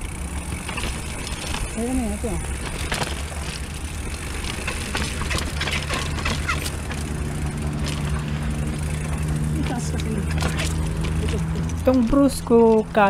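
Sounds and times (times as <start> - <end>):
bike clicks and rattles: 0.0 - 13.0
steady hum: 0.0 - 13.0
wind and tyres rumbling: 0.0 - 13.0.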